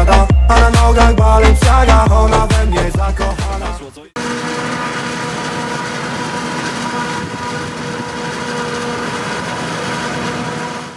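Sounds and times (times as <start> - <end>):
tractor engine: 0.0 - 10.9.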